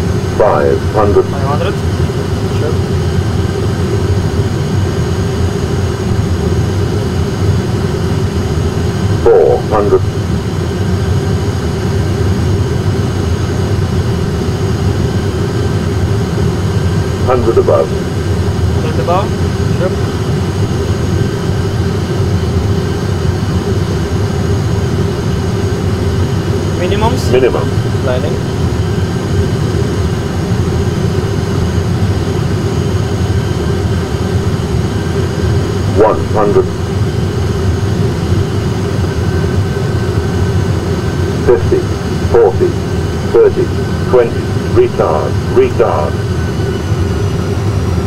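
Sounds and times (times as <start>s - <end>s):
constant hum: 0.0s - 48.0s
jet engine and airflow drone: 0.0s - 48.0s.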